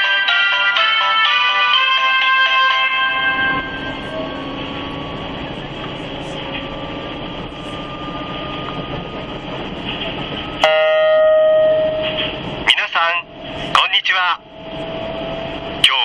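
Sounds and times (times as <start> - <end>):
train running rumble: 2.5 - 16.0.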